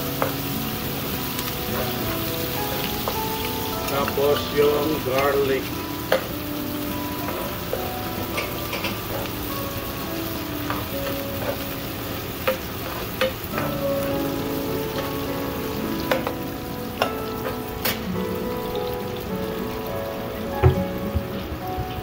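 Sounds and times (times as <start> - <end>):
garlic and onion sizzling in oil: 0.0 - 22.0.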